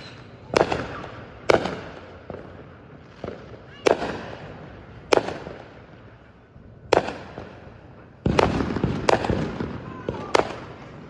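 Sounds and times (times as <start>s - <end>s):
fireworks bangs: 0.0s - 6.0s, 6.8s - 11.0s
dense continuous noise: 0.0s - 11.0s.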